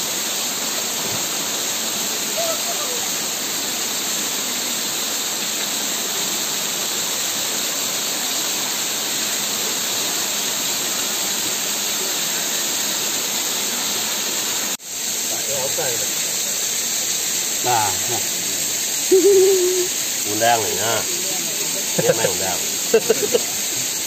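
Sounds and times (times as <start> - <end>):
waterfall pouring into pool: 0.0 - 24.0.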